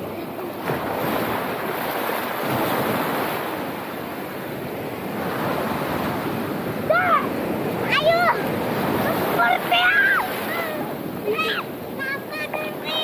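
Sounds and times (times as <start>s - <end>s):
surf breaking on a sandy beach: 0.0s - 13.0s.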